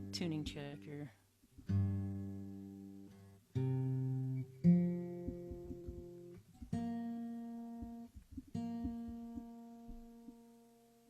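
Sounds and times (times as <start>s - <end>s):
acoustic guitar strings plucked: 0.0s - 10.9s.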